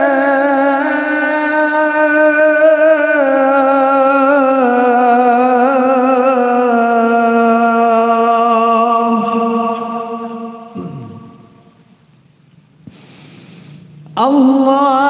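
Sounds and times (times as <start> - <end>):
man singing call to prayer: 0.0 - 11.8, 14.2 - 15.0.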